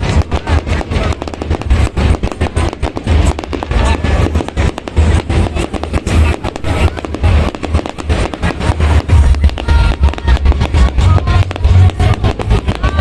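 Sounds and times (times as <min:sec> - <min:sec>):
firework bangs and crackles: 0:00.0 - 0:13.0.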